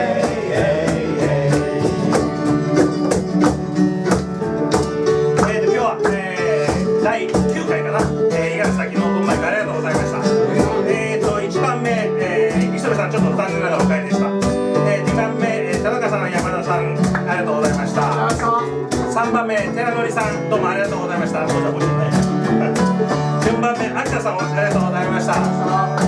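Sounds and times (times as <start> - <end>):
person singing: 0.0 - 3.6, 5.3 - 26.0
strummed acoustic guitar: 0.0 - 26.0.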